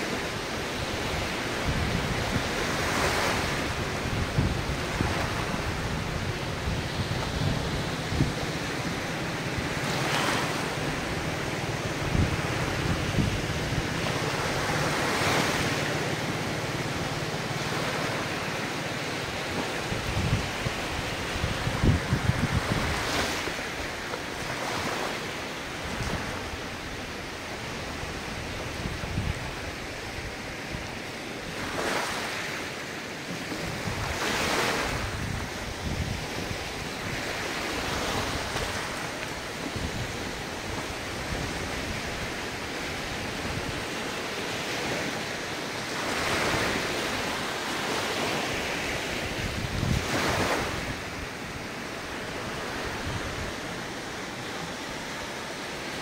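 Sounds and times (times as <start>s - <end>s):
wind rumbling on microphone: 0.0s - 32.6s, 33.2s - 56.0s
waves breaking: 0.0s - 56.0s.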